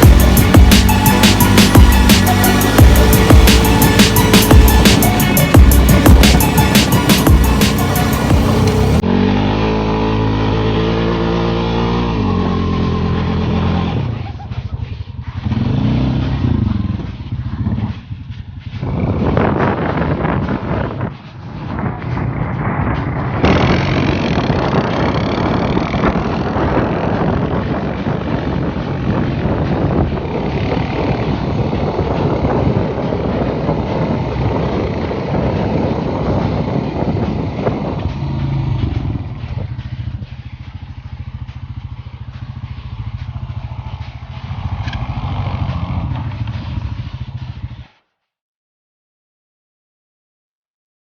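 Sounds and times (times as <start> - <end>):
atv engine running hard: 0.0 - 47.8.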